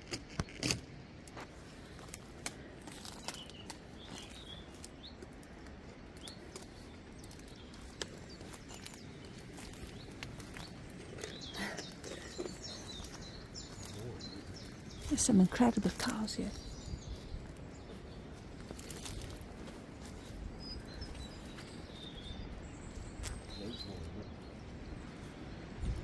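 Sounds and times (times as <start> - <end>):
birds chirping: 0.1 - 26.0.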